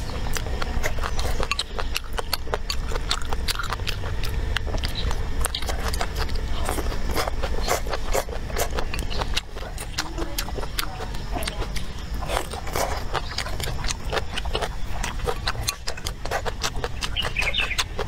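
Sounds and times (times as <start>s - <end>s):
chewing vegetable stems: 0.0s - 18.0s.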